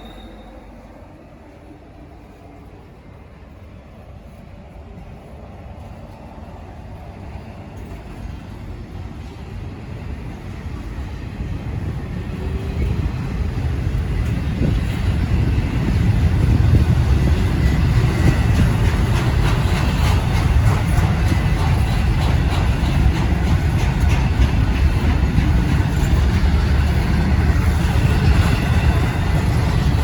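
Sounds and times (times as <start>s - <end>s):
freight train deep rumble: 0.0s - 30.0s
wind buffeting microphone: 1.2s - 30.0s.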